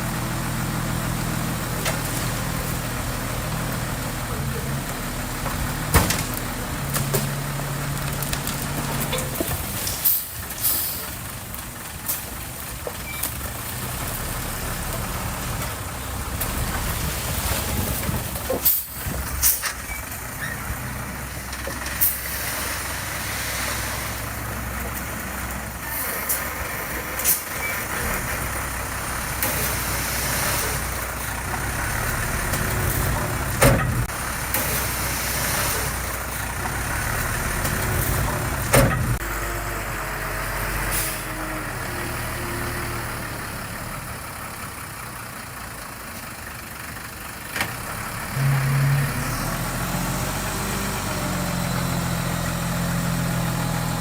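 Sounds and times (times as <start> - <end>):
diesel earthmoving machinery running: 0.0 - 54.0.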